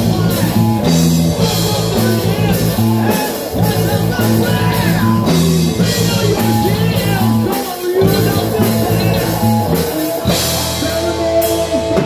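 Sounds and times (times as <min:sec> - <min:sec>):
heavy metal band playing live: 0:00.0 - 0:12.0
person singing: 0:00.0 - 0:12.0.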